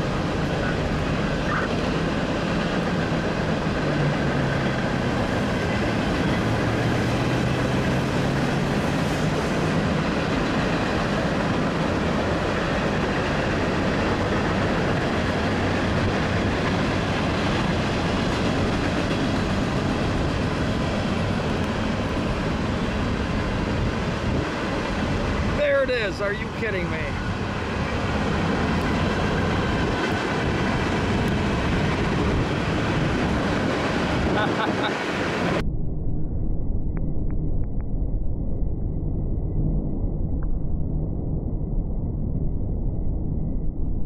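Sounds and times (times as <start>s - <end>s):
freight train wheels rumbling: 0.0s - 35.6s.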